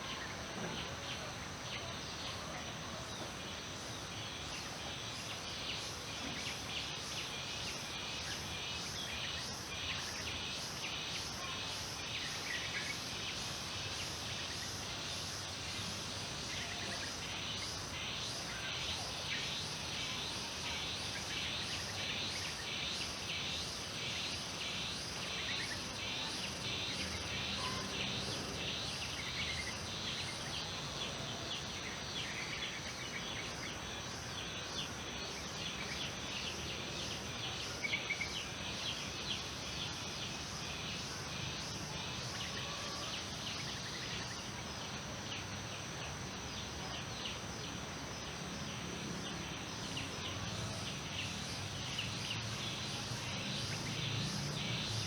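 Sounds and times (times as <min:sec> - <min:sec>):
outdoor background hiss: 0:00.0 - 0:55.0
insects chirping in pulses: 0:03.5 - 0:55.0.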